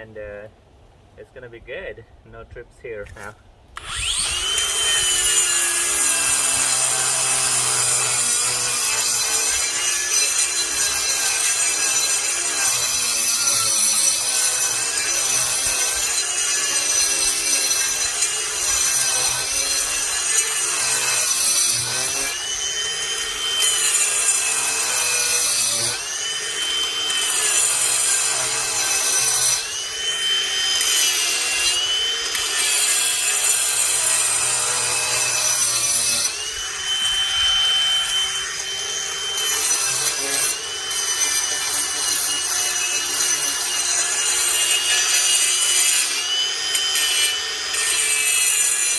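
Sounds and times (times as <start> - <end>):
angle grinder motor whine: 3.8 - 48.9.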